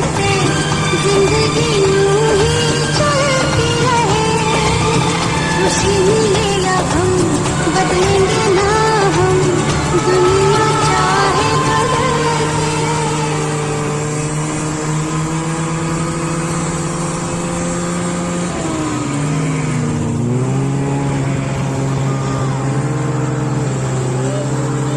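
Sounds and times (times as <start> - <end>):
snowmobile engine running: 0.0 - 24.9.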